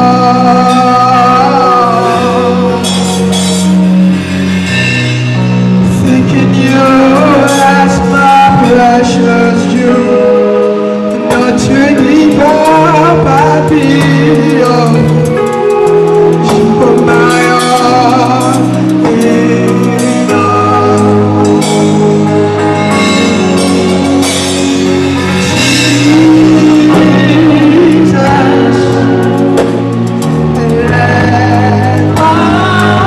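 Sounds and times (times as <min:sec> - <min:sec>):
band accompaniment: 0:00.0 - 0:33.0
choir singing gospel: 0:00.0 - 0:33.0
sustained bass line: 0:00.0 - 0:33.0.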